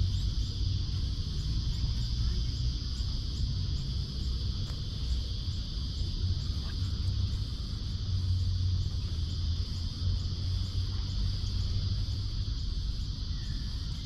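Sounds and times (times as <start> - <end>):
continuous low rumble: 0.0 - 14.0
high-pitched insect drone: 0.0 - 14.0.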